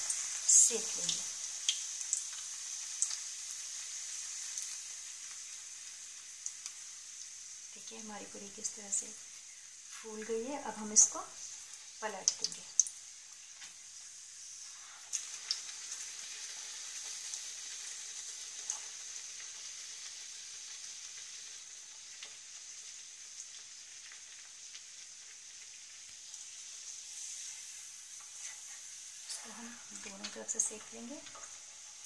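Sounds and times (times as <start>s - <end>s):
deep-frying sizzle: 0.0s - 32.0s.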